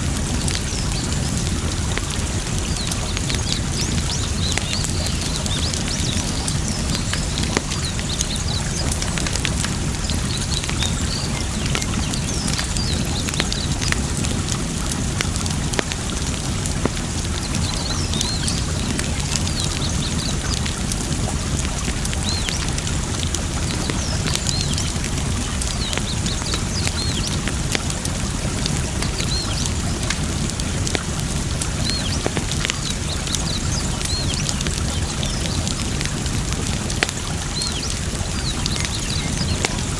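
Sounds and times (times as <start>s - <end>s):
flowing water: 0.0s - 39.9s
wood fire crackling and popping: 0.0s - 39.9s.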